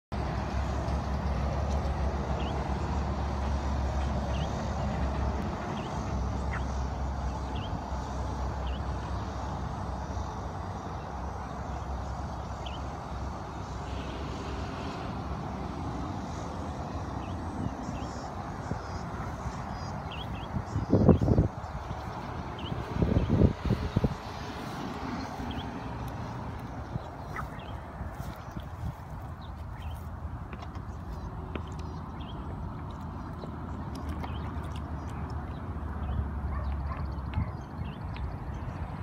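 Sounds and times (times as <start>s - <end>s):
steady low rumble: 2.1s - 39.0s.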